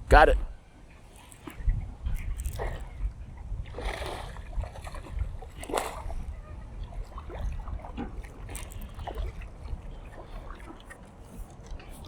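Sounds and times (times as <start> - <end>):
small water splashes: 0.8 - 12.0.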